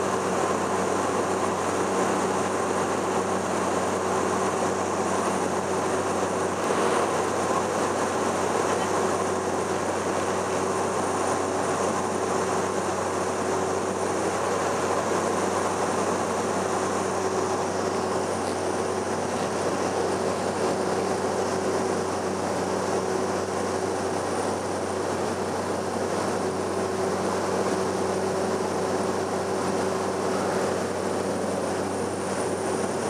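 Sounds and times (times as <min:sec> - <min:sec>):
turboprop engine drone: 0:00.0 - 0:33.0.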